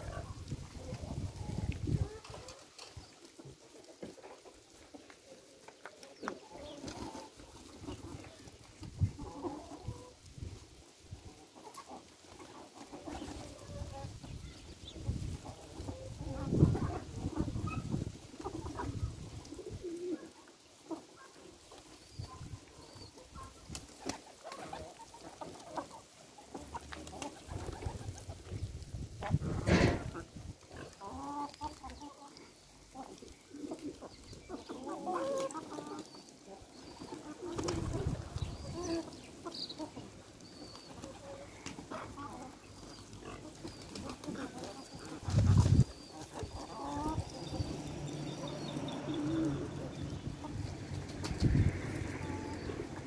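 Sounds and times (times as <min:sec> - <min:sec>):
hens clucking: 0:00.0 - 0:53.0.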